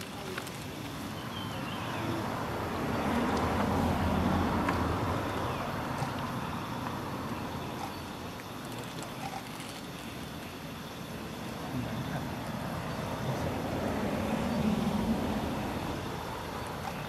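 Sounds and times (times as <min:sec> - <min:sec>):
vehicle passing: 0:00.0 - 0:08.2, 0:11.4 - 0:17.0.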